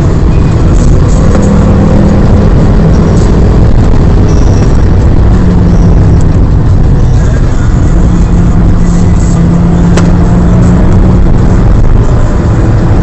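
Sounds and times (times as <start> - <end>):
car engine pulling hard: 0.0 - 13.0
road and tyre noise: 0.0 - 13.0.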